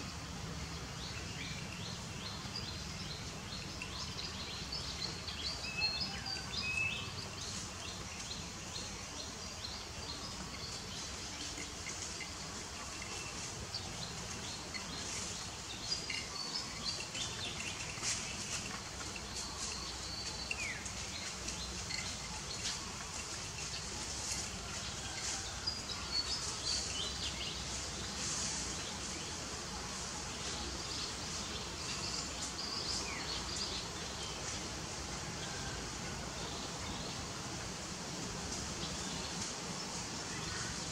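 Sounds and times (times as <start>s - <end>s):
background hiss: 0.0s - 40.9s.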